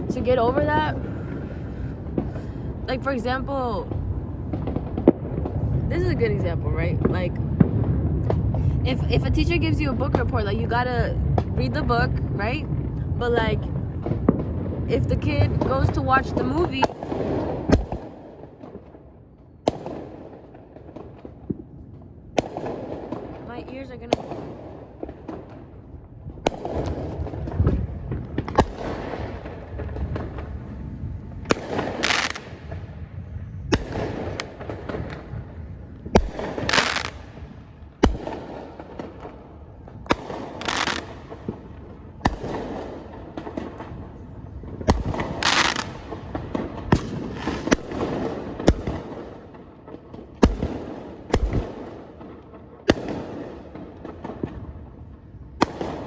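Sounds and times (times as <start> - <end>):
distant fireworks rumbling: 0.0 - 56.0
fireworks banging: 0.0 - 56.0
fireworks crackling: 0.0 - 56.0.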